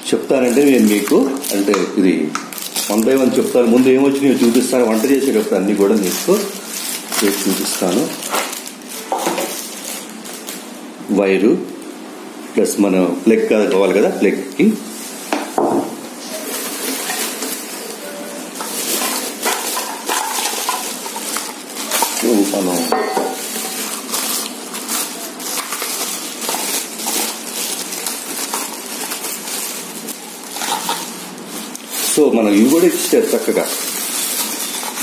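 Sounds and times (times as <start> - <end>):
plastic bag crinkling: 0.3 - 10.7, 16.0 - 35.0.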